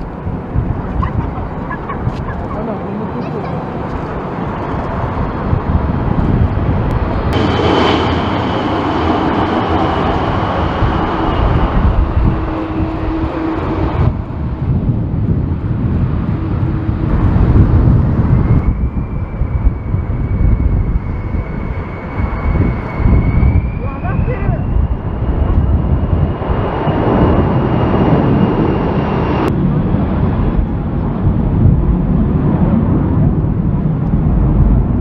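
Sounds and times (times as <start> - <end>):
jet engines whining: 0.0 - 35.0
wind rumble on microphone: 0.0 - 35.0.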